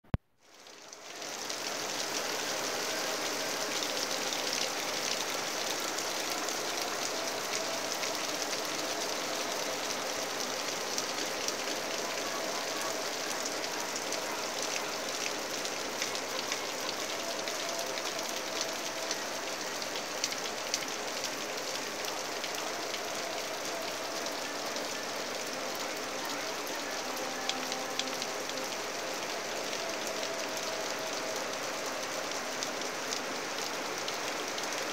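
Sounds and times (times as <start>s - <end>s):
rain falling on leaves and grass: 0.1s - 34.9s.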